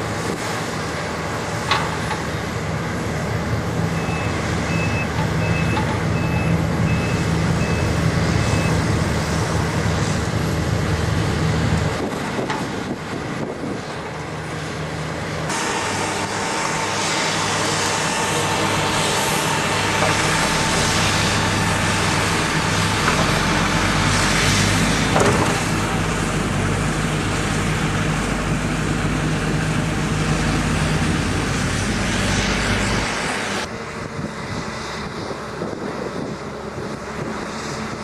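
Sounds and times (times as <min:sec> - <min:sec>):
heavy diesel engine running hard: 0:00.0 - 0:38.0.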